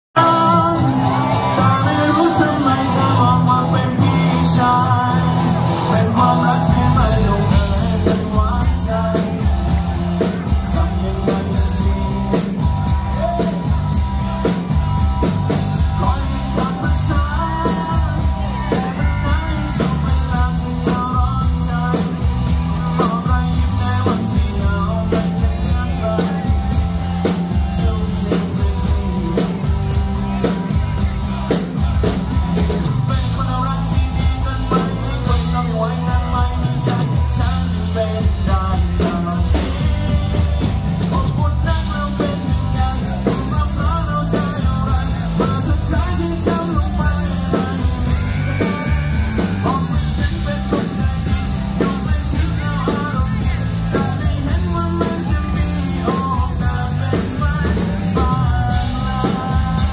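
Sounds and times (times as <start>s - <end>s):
man singing lead vocal: 0.1s - 59.9s
drum kit beat: 0.2s - 59.9s
electric guitar: 0.2s - 59.9s.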